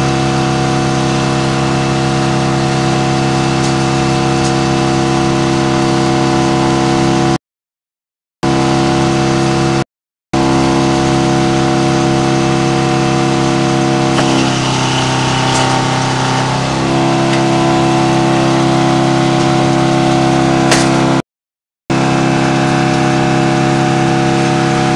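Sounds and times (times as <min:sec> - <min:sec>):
sawmill mechanical drone: 0:00.0 - 0:07.4, 0:08.4 - 0:09.8, 0:10.4 - 0:21.2, 0:21.9 - 0:24.9.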